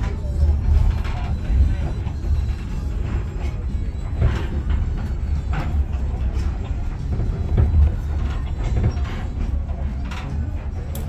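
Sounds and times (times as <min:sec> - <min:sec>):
train rumbling with clacks: 0:00.0 - 0:11.0.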